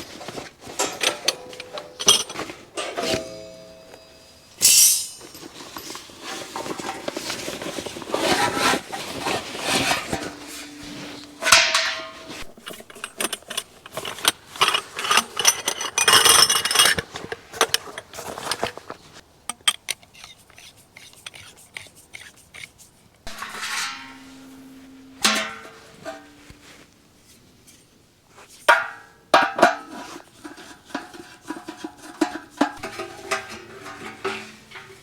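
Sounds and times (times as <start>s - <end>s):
objects knocking and scraping: 0.0s - 4.0s, 4.6s - 27.8s, 28.5s - 35.0s.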